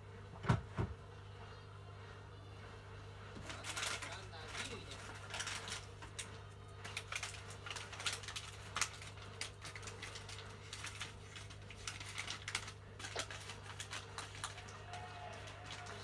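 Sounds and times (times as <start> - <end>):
aquarium filter hum: 0.0 - 16.0.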